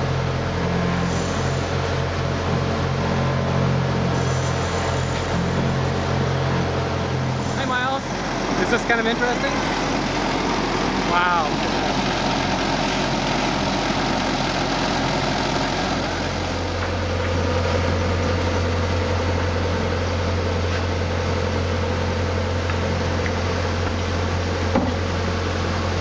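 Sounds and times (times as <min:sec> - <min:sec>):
air compressor engine drone: 0:00.0 - 0:26.0.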